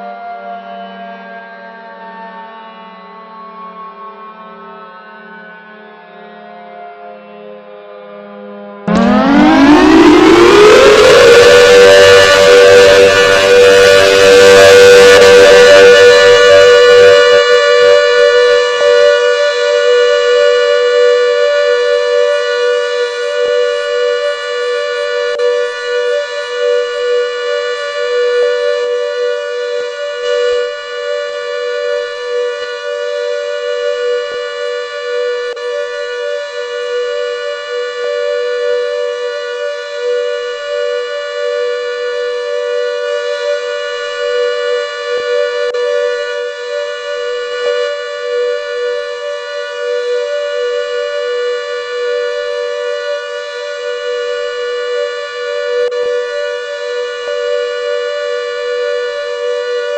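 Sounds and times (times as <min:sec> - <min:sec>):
siren steady two-pitch tone: 0:08.9 - 0:59.9.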